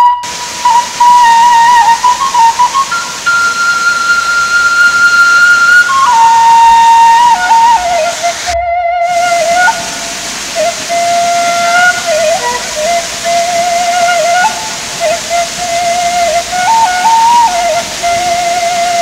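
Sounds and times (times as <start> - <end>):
rushing falling water: 0.0 - 19.0
slow flute melody: 0.0 - 19.0.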